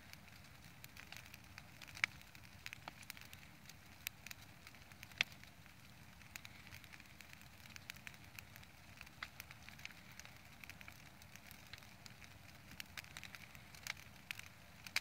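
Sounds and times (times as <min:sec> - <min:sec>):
branches burning and crackling: 0:00.0 - 0:15.0
low fire rumble: 0:00.0 - 0:15.0.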